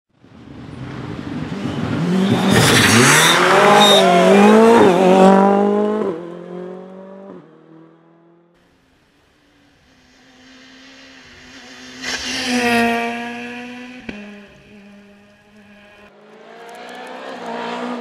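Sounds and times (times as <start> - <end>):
rally car passing at full throttle: 0.2 - 18.0.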